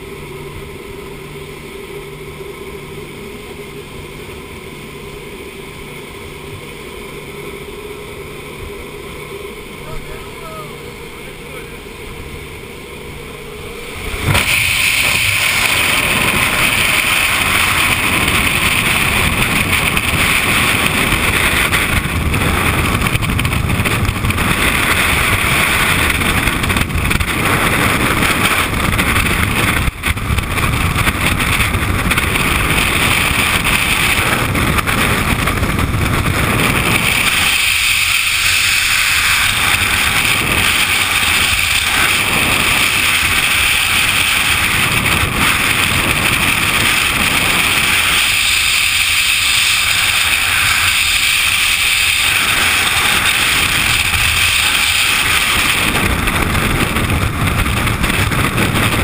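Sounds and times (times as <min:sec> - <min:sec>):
airplane cabin drone: 0:00.0 - 0:59.0
freefall wind rushing: 0:00.0 - 0:59.0.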